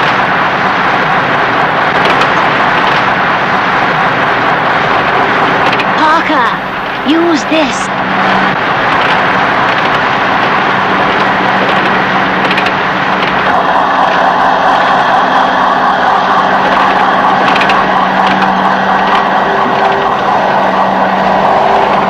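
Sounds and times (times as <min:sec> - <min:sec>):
constant low hum: 0:00.0 - 0:22.0
engine roar: 0:00.0 - 0:22.0.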